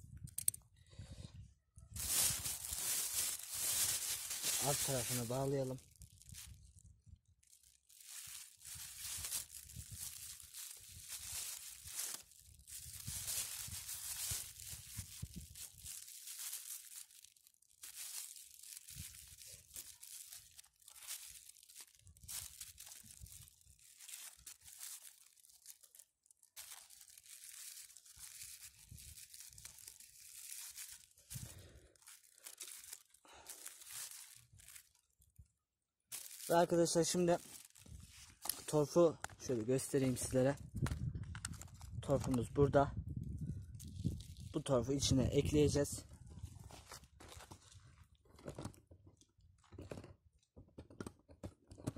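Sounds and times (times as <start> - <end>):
plastic bag crinkling: 1.9 - 35.4, 36.1 - 42.6, 43.4 - 45.1.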